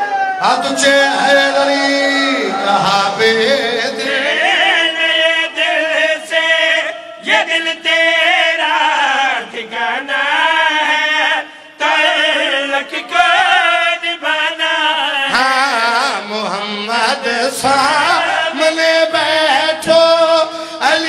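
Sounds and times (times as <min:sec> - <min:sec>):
men chanting devotional song: 0:00.0 - 0:21.0.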